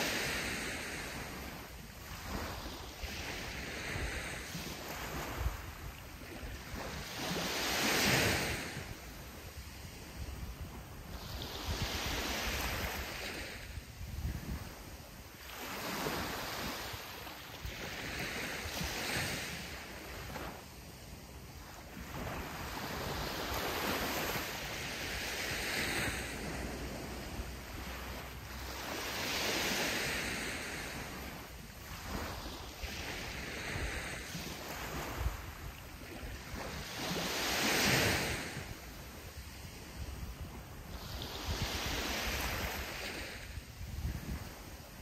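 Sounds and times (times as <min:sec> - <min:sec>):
sea waves breaking on beach: 0:00.0 - 0:45.0.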